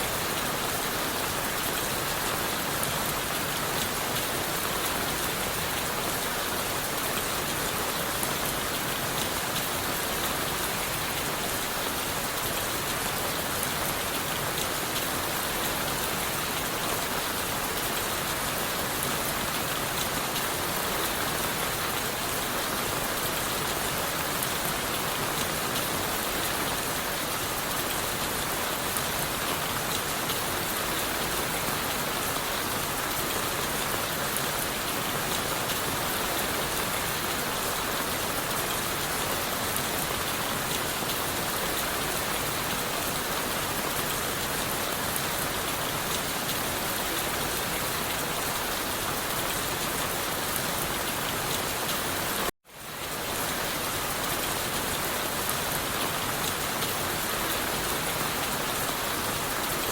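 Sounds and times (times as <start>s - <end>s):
rain falling on leaves and wood: 0.0s - 59.9s.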